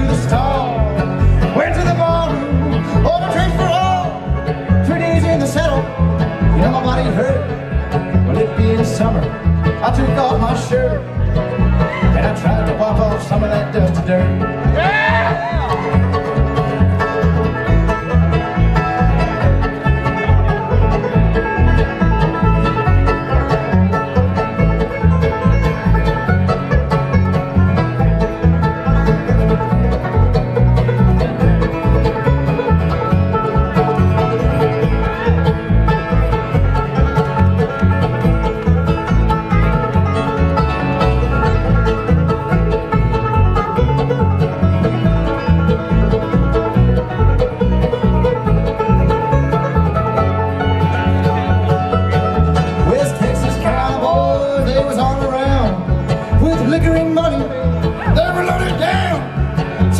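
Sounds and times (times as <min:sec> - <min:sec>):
bluegrass band playing: 0:00.0 - 0:59.9
picked acoustic guitar: 0:00.0 - 0:59.9
upright bass: 0:00.0 - 0:59.9.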